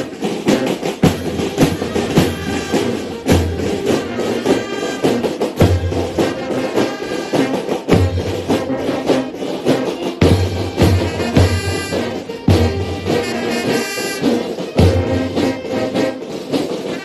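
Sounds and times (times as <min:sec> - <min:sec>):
brass melody: 0:00.0 - 0:17.0
snare drums rattling: 0:00.0 - 0:17.0.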